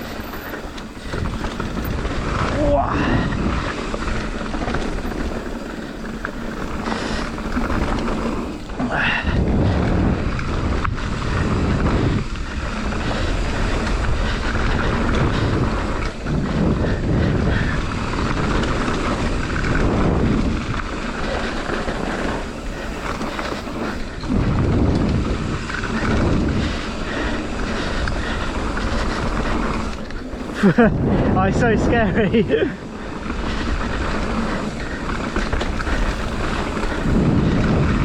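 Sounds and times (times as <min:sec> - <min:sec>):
bike rattling: 0:00.0 - 0:38.0
bike tyre noise: 0:00.0 - 0:38.0
wind rushing over microphone: 0:00.0 - 0:38.0.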